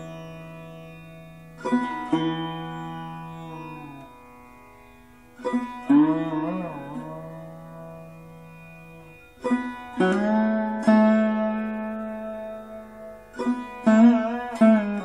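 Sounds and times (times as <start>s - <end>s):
plucked string instrument music: 0.0s - 15.0s.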